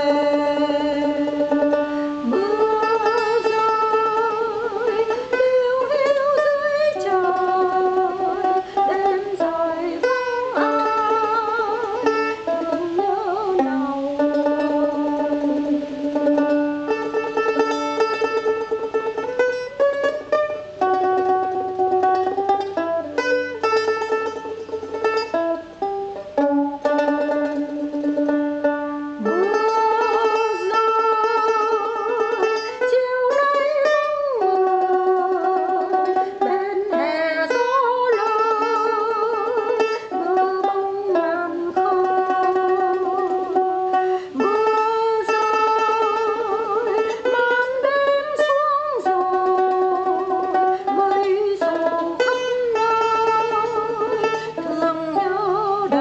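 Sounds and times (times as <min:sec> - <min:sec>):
person singing long held notes: 0:00.0 - 0:24.9, 0:26.1 - 0:56.0
plucked strings: 0:00.0 - 0:56.0.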